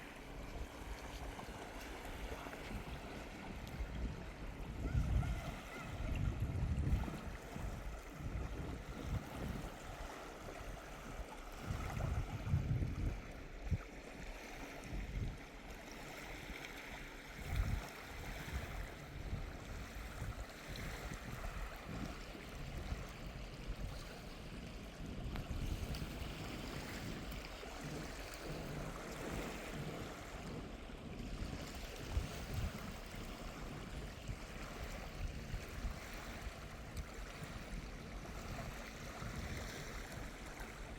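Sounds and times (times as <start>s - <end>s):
waves washing onto sand: 0.0s - 40.9s
wind buffeting microphone: 0.0s - 40.9s.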